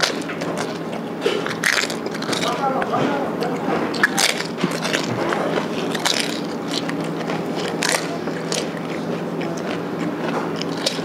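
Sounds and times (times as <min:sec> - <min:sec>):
person crunching crisp snacks: 0:00.0 - 0:11.0
steady low hum: 0:00.0 - 0:11.0.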